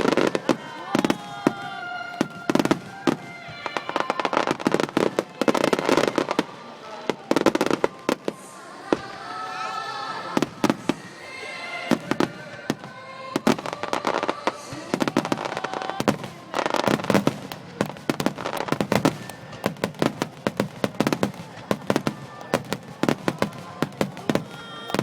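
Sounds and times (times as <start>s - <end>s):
fireworks bursts and crackling: 0.0s - 25.0s.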